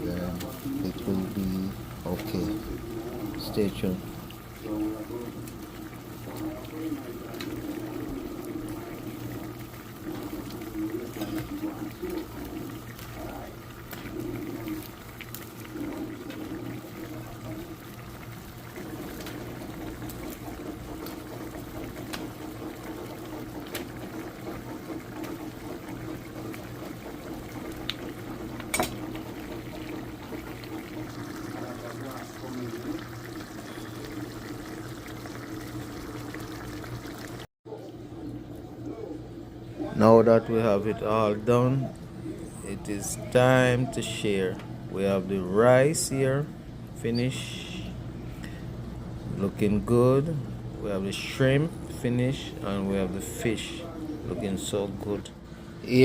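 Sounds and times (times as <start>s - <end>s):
pot bubbling: 0.0s - 56.0s.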